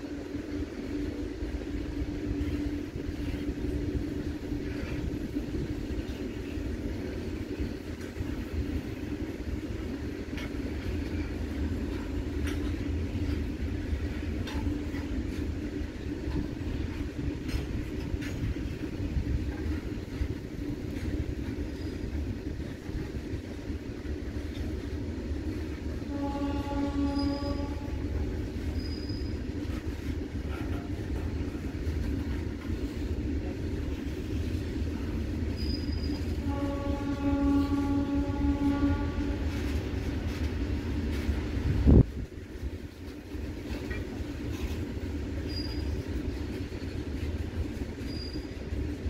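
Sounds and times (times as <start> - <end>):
train wheels rumbling on track: 0.0 - 49.0
wheels clanking on rail joints: 2.3 - 23.8, 24.4 - 49.0.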